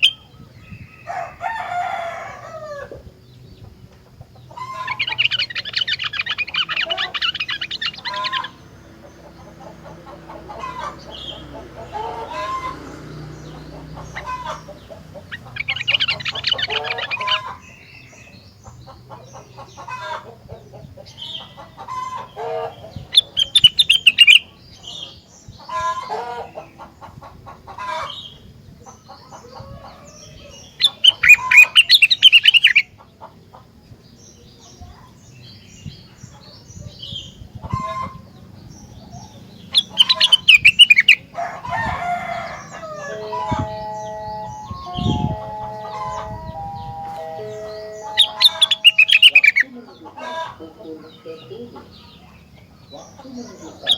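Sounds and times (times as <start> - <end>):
songbird chattering trills: 0.0 - 53.9.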